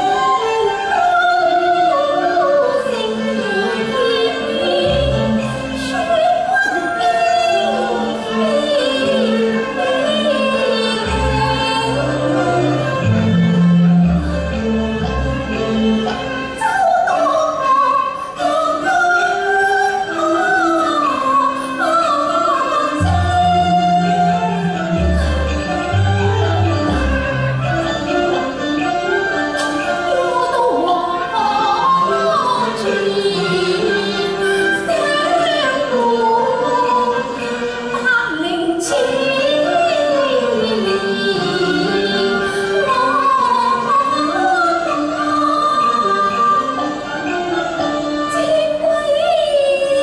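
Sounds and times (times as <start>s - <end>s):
opera singing with ensemble: 0.0s - 50.0s
band melodic accompaniment: 7.0s - 49.7s.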